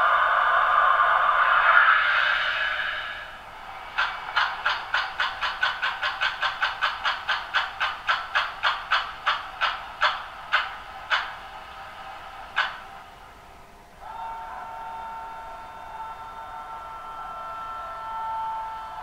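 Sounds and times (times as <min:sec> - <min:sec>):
model locomotive engine sound: 0:00.0 - 0:19.0.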